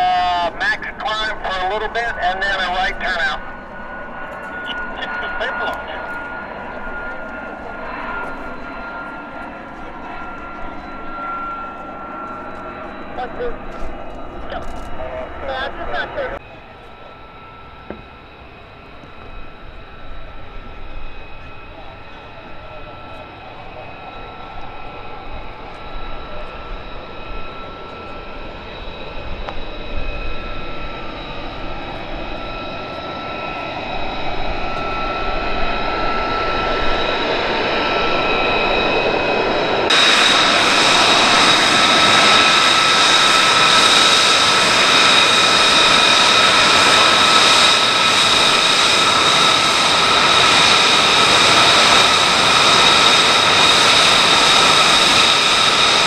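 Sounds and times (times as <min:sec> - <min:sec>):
jet engine whine and roar: 0:00.0 - 0:56.0.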